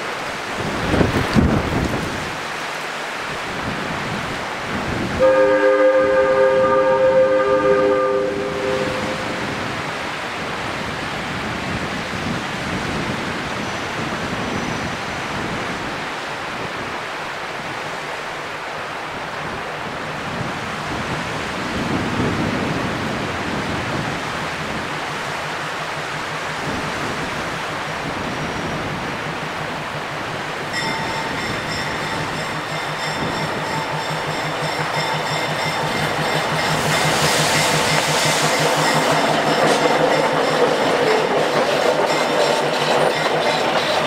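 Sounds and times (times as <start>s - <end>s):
diesel locomotive engine: 0.0s - 44.0s
steady rushing noise: 0.0s - 44.0s.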